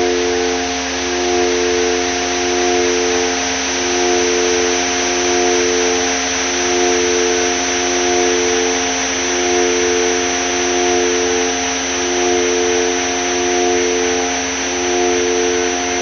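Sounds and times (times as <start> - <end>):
synthesizer drone: 0.0 - 16.0.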